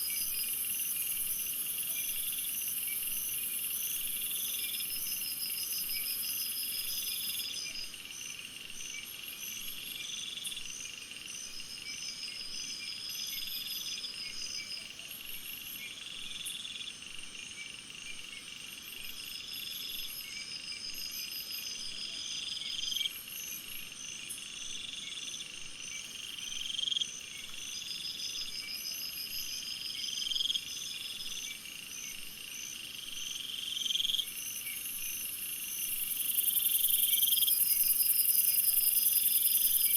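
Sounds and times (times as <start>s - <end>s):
insects pulsing trills: 0.0s - 39.9s.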